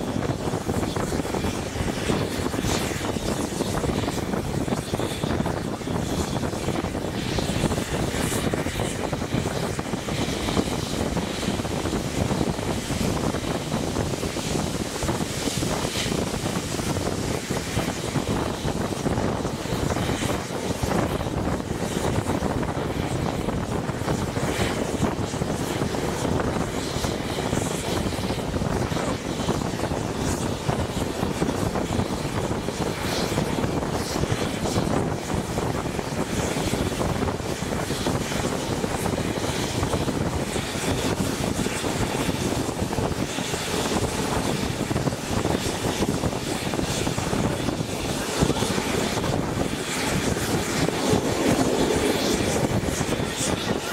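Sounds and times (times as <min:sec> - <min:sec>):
train running noise: 0:00.0 - 0:53.9
wind rushing past: 0:00.0 - 0:53.9.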